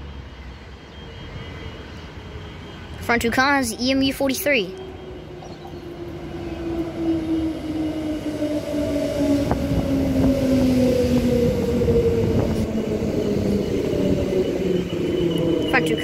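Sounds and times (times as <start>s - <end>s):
wheel and rail rumble: 0.0s - 16.0s
electric train motors whining: 0.1s - 16.0s.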